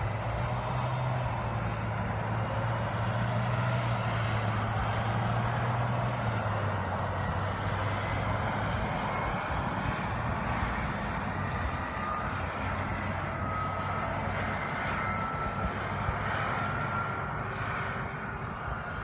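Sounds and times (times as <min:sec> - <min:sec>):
distant truck droning on highway: 0:00.0 - 0:19.0.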